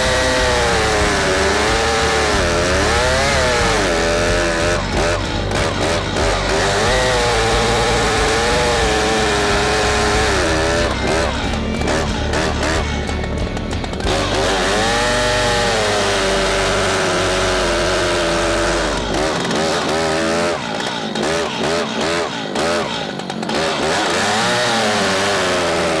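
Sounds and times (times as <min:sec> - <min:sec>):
chainsaw cutting: 0:00.0 - 0:26.0.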